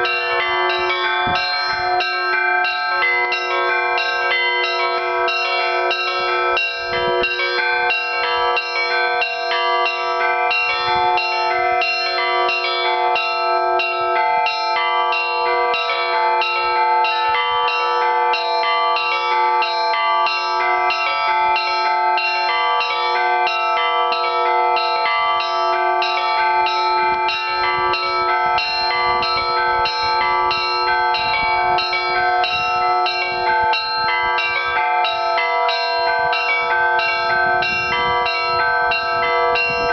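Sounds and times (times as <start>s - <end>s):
large church bells ringing: 0.0s - 39.9s
small high church bells: 0.0s - 39.9s.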